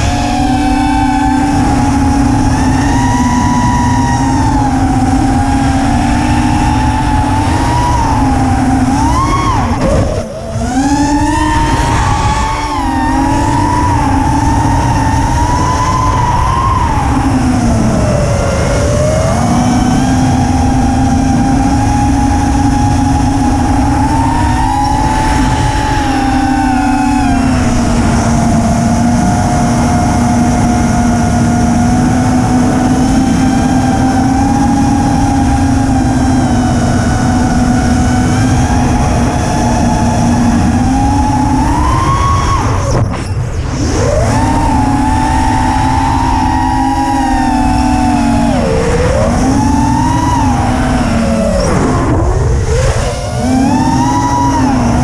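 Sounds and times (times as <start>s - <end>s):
drone motors whining: 0.0s - 55.0s
wind rumble: 0.0s - 55.0s.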